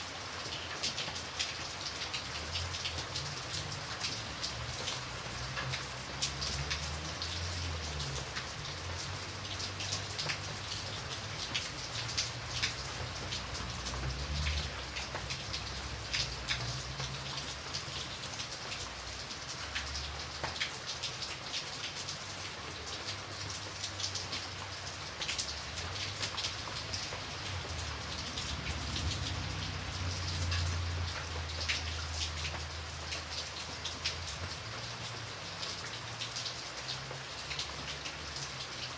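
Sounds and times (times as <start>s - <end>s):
rain drops ticking on a surface: 0.0s - 38.9s.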